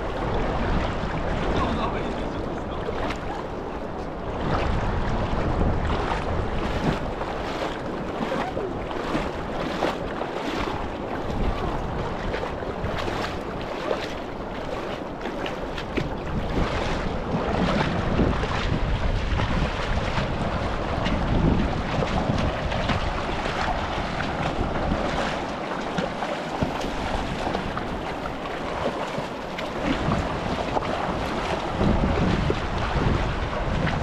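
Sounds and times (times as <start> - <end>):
rushing river water: 0.0 - 34.0
wind buffeting microphone: 0.0 - 34.0.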